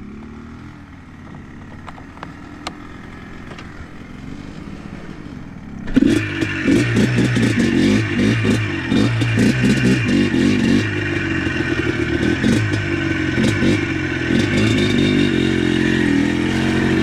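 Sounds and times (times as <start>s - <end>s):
atv engine idling and revving: 0.0s - 17.0s.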